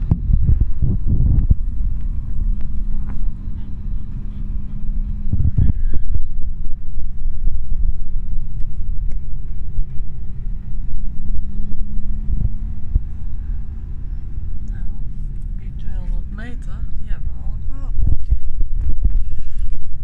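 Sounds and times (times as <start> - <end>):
car engine drone: 0.0 - 20.0
road rumble: 0.0 - 20.0.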